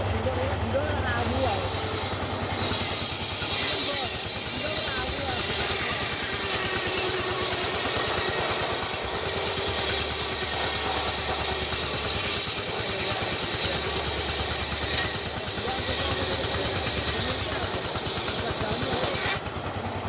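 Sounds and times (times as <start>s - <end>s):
engine running with fast pulse: 0.0s - 20.0s.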